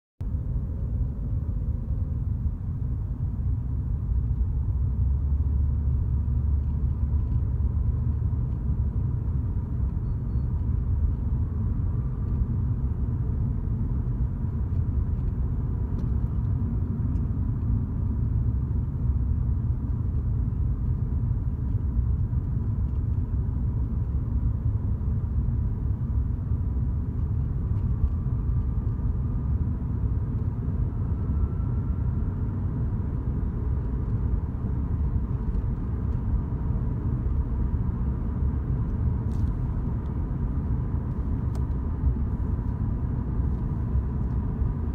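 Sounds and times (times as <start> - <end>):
car interior road rumble: 0.2 - 44.9.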